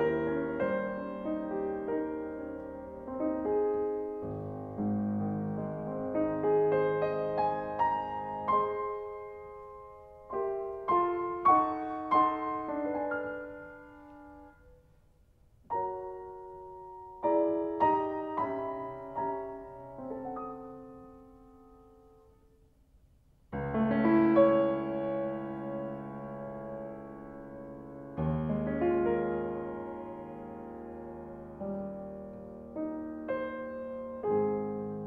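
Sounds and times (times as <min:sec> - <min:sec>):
solo piano music: 0:00.0 - 0:22.9, 0:23.5 - 0:35.0.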